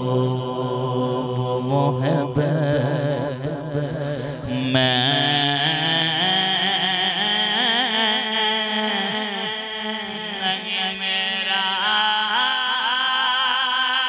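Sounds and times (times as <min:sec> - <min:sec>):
man chanting into a microphone: 0:00.0 - 0:14.0.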